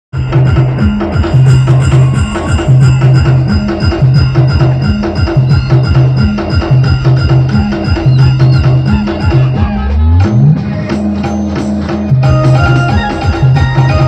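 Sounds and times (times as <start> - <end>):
live band playing upbeat music: 0.1 - 14.0.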